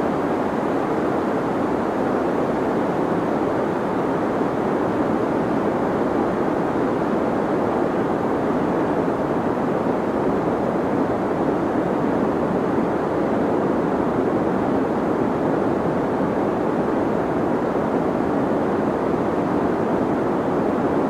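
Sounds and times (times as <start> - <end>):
deep white noise hiss: 0.0 - 21.0.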